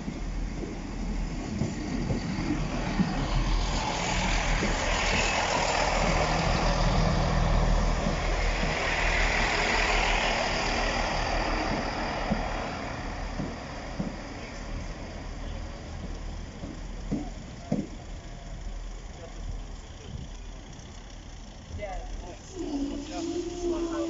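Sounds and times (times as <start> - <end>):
diesel engines running: 0.0 - 24.0
wheels rumbling on rails: 0.0 - 24.0.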